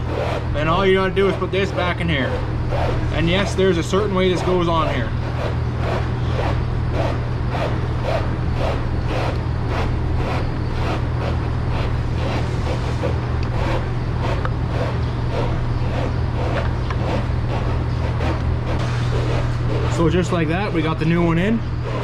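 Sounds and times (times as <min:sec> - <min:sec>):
machinery low hum: 0:00.0 - 0:22.0.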